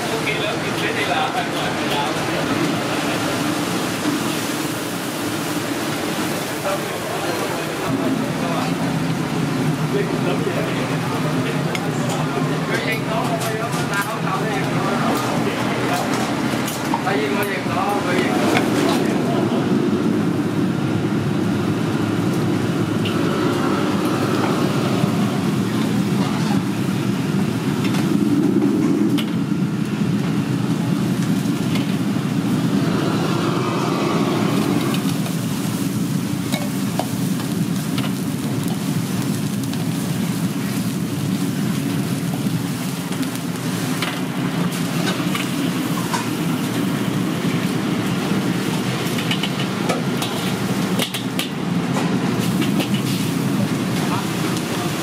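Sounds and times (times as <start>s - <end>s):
gas wok burner roaring: 0.0s - 55.0s
kitchen exhaust: 0.0s - 55.0s.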